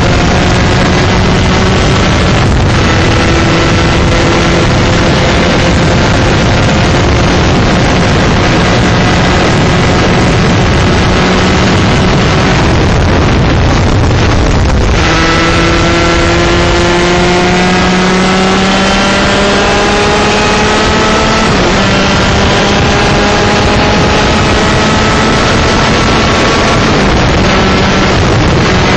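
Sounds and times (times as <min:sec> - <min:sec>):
kart engine running hard: 0:00.0 - 0:28.9
wind noise on microphone: 0:00.0 - 0:28.9.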